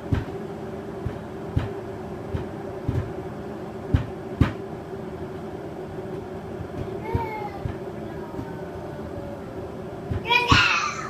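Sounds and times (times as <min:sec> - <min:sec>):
electric kettle humming: 0:00.0 - 0:11.0.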